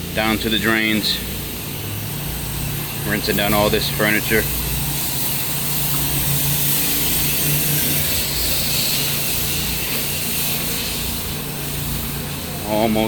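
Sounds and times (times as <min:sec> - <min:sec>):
high-pressure water spray hiss: 0:00.0 - 0:13.0
pressure washer engine drone: 0:00.0 - 0:13.0.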